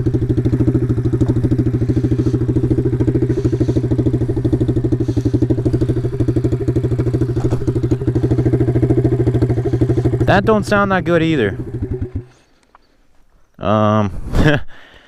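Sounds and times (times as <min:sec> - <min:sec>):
pit bike engine running: 0:00.0 - 0:12.5.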